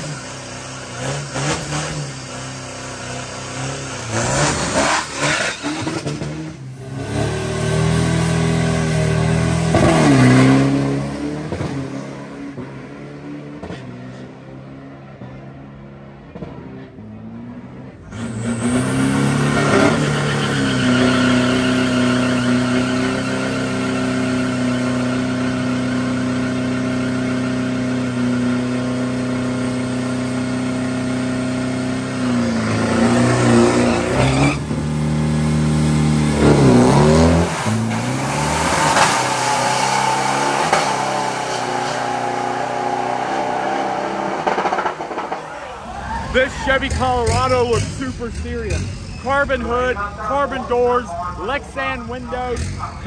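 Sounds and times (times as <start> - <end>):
truck engine at high revs: 0.0 - 53.0.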